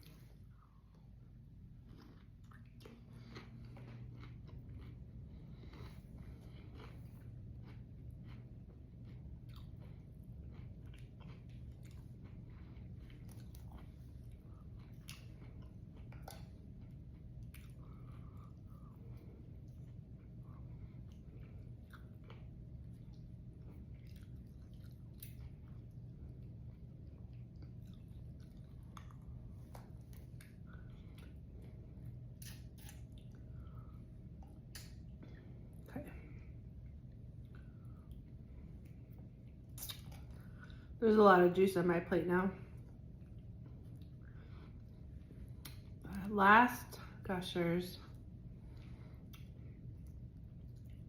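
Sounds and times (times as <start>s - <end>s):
steady low hum: 0.0s - 51.0s
close chewing with wet crunches: 1.7s - 35.7s, 36.7s - 40.8s, 48.2s - 51.0s.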